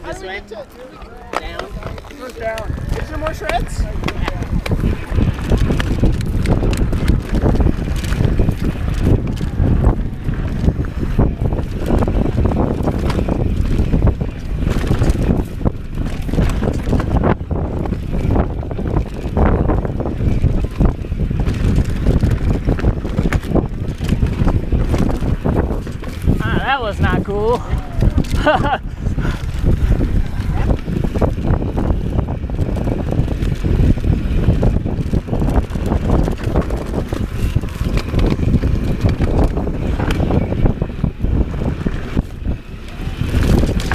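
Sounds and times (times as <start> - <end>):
tyres rumbling on dirt trail: 0.0 - 43.9
wind buffeting microphone: 0.0 - 43.9
bike knocking and clattering: 1.2 - 43.9.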